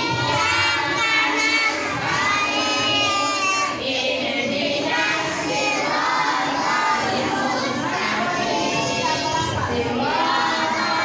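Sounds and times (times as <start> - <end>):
children shouting and chattering: 0.0 - 11.0
children singing together: 0.0 - 11.0.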